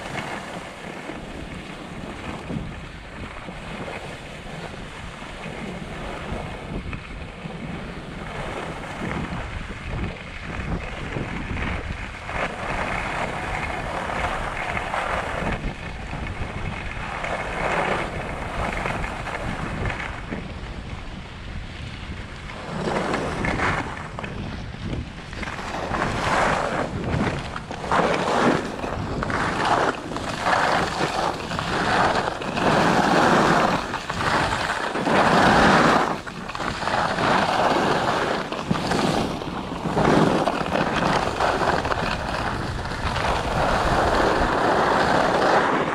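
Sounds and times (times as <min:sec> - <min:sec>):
skis scraping on snow: 0:00.0 - 0:45.9
wind rushing over microphone: 0:00.0 - 0:45.9.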